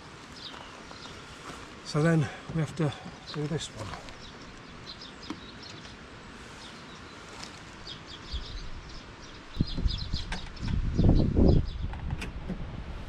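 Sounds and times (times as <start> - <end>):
steady background hiss: 0.0 - 10.6
small birds chirping: 0.0 - 12.1.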